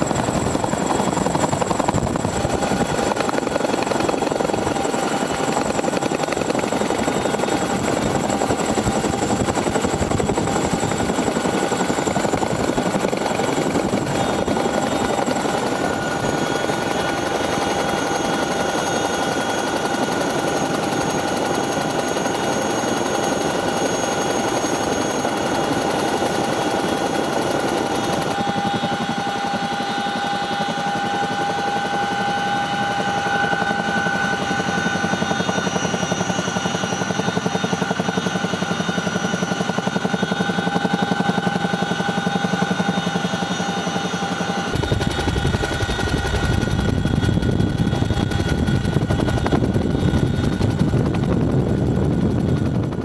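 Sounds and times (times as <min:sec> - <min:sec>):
helicopter rotor chop: 0:00.0 - 0:53.0
turbine whine: 0:00.0 - 0:53.0.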